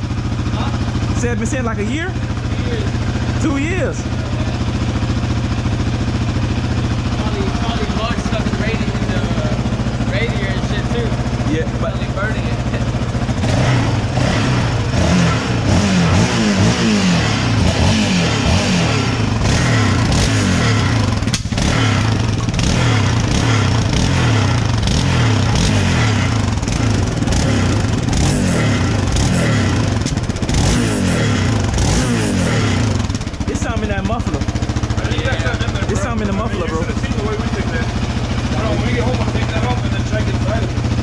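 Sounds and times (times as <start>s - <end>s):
engine revving: 0.0s - 41.0s
rattle inside muffler: 0.0s - 41.0s.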